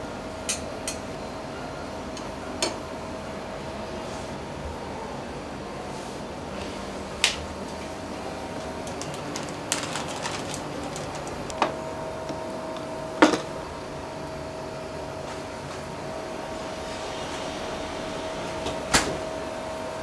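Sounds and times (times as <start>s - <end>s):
kitchen hum: 0.0s - 20.0s.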